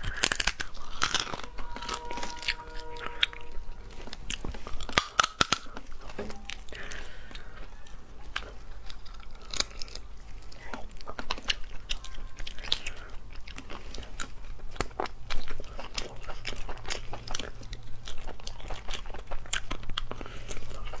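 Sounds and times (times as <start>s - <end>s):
shellfish shells cracking: 0.0s - 2.4s, 4.2s - 21.0s
chewing: 0.0s - 21.0s.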